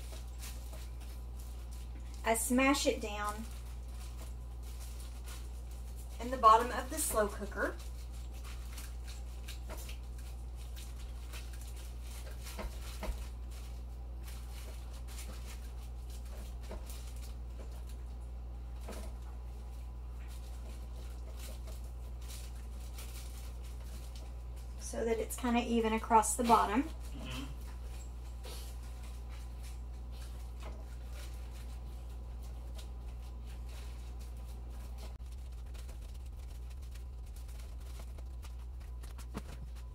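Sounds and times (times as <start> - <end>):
plastic liner crinkling: 0.0 - 39.9
soft rustling: 0.0 - 39.9
steady low hum: 0.0 - 39.9.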